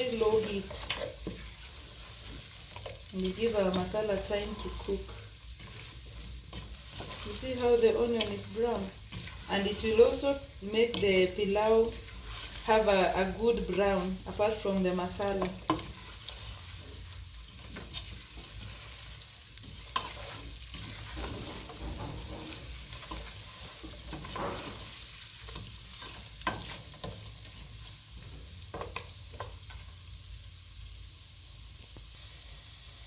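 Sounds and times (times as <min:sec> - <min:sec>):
food sizzling in a pot: 0:00.0 - 0:33.0.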